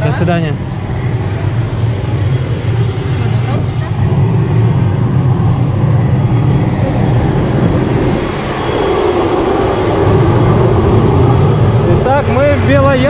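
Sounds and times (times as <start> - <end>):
turboprop engine running: 0.0 - 13.0.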